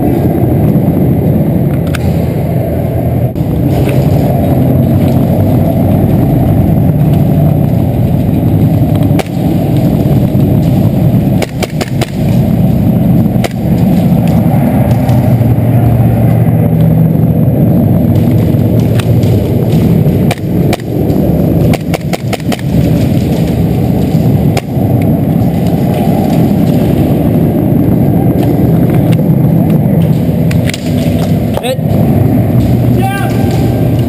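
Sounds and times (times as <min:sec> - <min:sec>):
muffled rumble and clatter of movement: 0:00.0 - 0:34.0.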